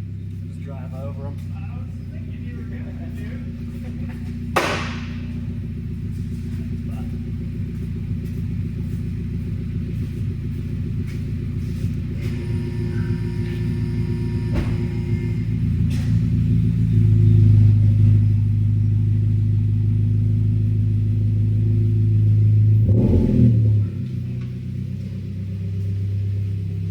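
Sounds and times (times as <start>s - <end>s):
car engine revving without muffler: 0.0s - 26.9s.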